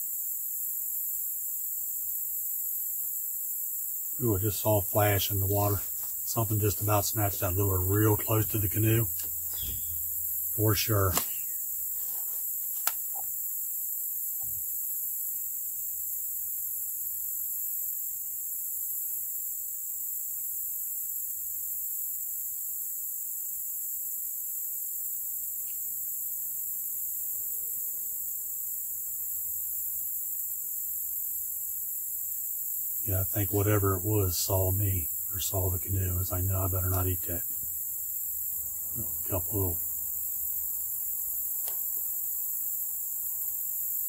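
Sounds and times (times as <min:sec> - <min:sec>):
insects shrilling: 0:00.0 - 0:44.0.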